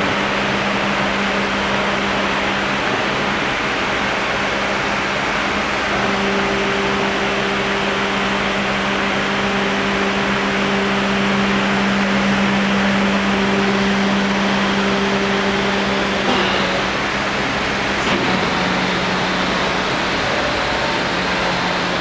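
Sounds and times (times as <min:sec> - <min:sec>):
hydraulic pump motor hum: 0:00.0 - 0:22.0.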